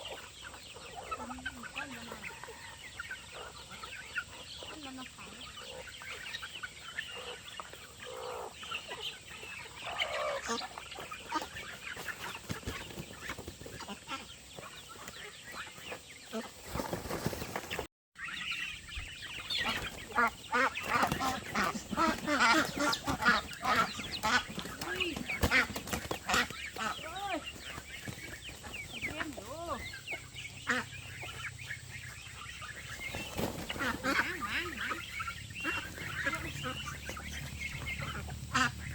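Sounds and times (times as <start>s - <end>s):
poultry clucking and peeping: 0.0s - 38.9s.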